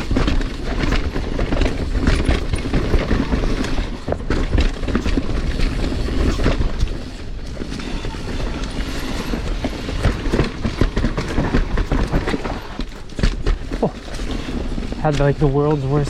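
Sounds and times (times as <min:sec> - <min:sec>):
bike rattling and knocking: 0:00.0 - 0:16.0
tyres rumbling on dirt: 0:00.0 - 0:16.0.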